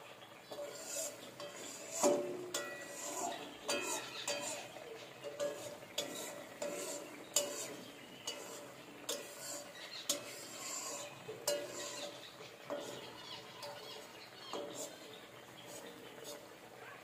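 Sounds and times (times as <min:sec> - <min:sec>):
faint hiss: 0:00.0 - 0:17.0
metal spatula scraping a pan: 0:00.3 - 0:16.8.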